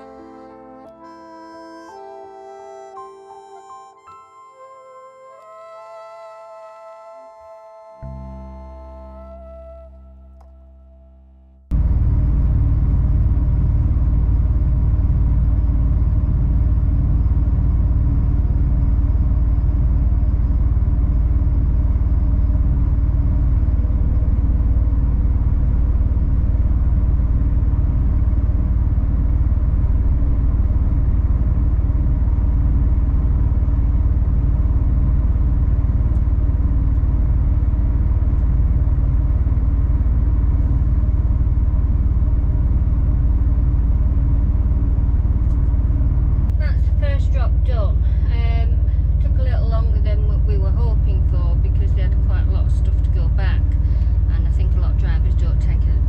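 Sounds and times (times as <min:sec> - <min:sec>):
lorry engine drone: 0:00.0 - 0:56.0.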